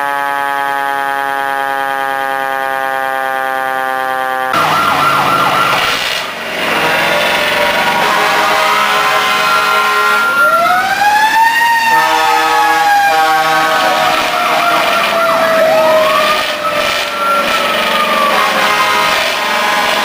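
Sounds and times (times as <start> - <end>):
fire truck sirens: 0.0 - 20.0.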